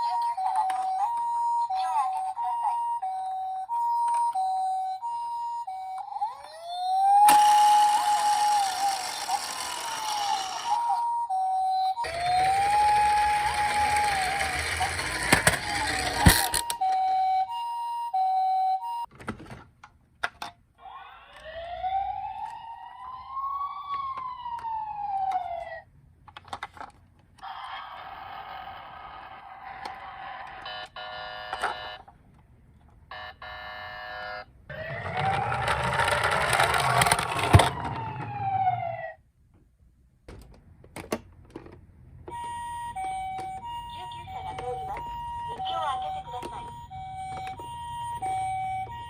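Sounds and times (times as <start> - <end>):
toy ambulance siren: 0.0 - 19.1, 20.8 - 25.9, 27.4 - 32.0, 33.1 - 39.2, 42.3 - 49.0.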